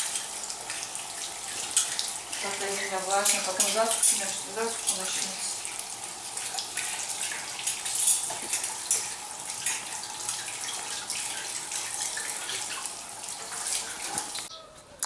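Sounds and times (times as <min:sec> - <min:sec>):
tap water running into sink: 0:00.0 - 0:14.5.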